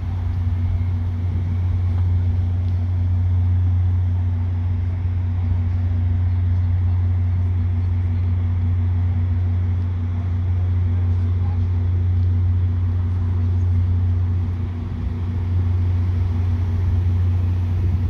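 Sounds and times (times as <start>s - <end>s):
idling train hum: 0.0s - 18.0s.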